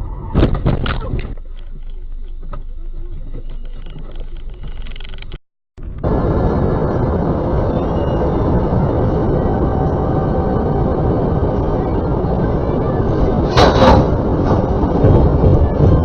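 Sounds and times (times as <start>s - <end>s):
car engine and road rumble: 0.0s - 16.0s
wind noise: 0.0s - 16.0s.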